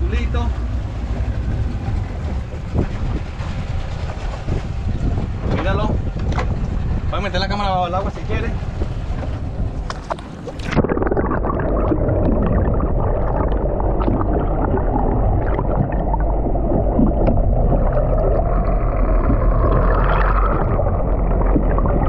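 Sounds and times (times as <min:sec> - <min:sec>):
muffled underwater rumble and gurgle: 0:00.0 - 0:22.0.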